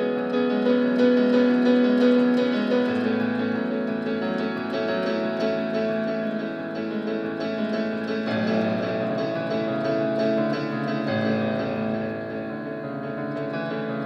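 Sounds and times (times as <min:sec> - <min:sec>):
instrumental music with held chords: 0:00.0 - 0:14.0.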